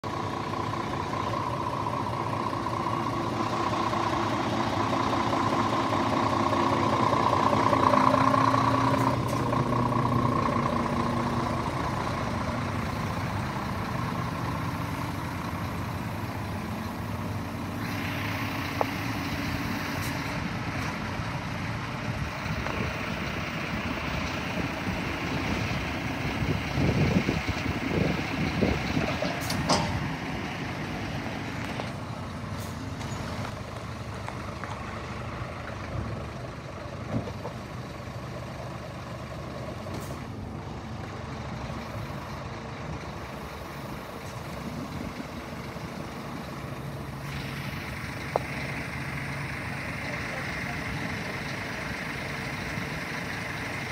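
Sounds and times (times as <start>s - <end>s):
truck diesel engine idling: 0.0s - 53.9s.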